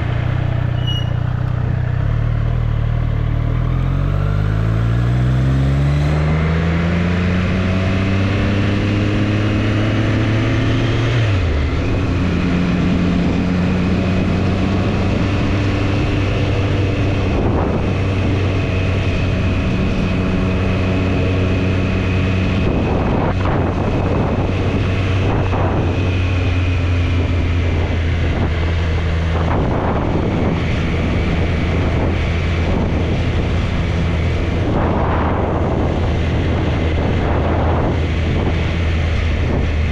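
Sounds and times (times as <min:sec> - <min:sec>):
motorcycle engine revving: 0:00.0 - 0:39.9
wind gusts on microphone: 0:06.4 - 0:39.9.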